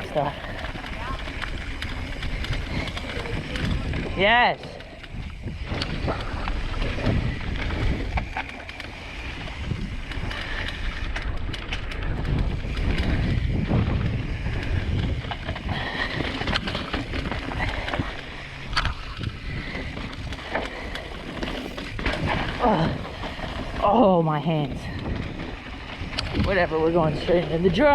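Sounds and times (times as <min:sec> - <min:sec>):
bike tyres and frame clattering: 0:00.0 - 0:27.9
wind buffeting microphone: 0:00.0 - 0:27.9.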